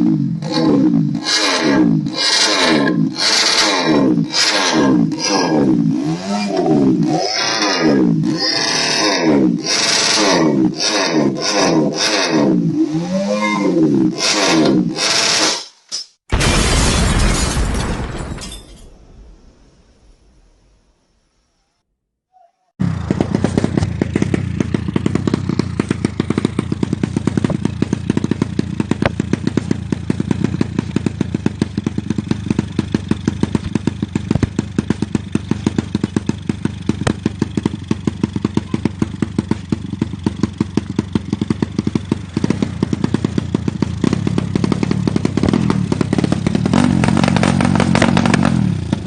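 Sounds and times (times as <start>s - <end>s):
motorcycle engine revving: 0.0s - 15.7s, 22.8s - 49.0s.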